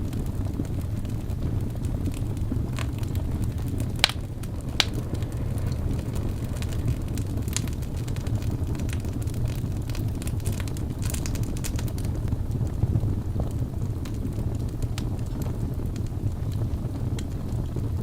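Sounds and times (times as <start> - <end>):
fire crackling in fireplace: 0.0 - 18.0.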